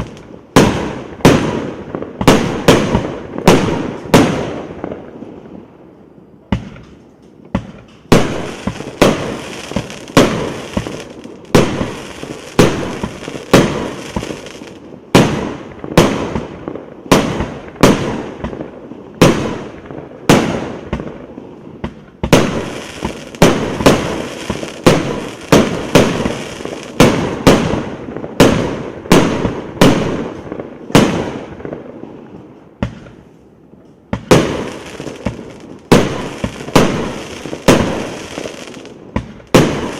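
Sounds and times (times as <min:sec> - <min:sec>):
firework bangs: 0:00.0 - 0:05.6, 0:06.5 - 0:33.4, 0:34.1 - 0:39.9.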